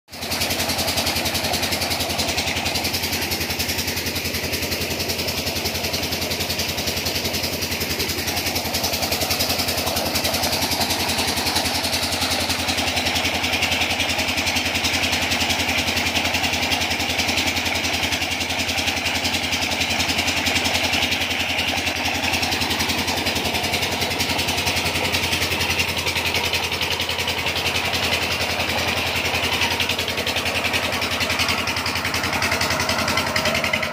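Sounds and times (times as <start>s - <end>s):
diesel engine running: 0.1s - 33.9s
water gushing into a tank: 0.1s - 33.9s.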